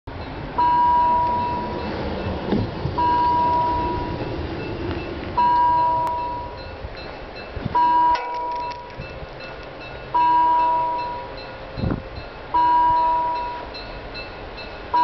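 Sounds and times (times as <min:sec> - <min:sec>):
level crossing warning bell: 0:00.1 - 0:15.0.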